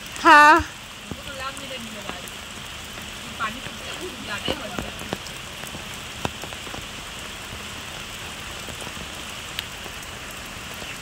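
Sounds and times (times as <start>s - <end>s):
rain falling on pond water: 0.0s - 11.0s.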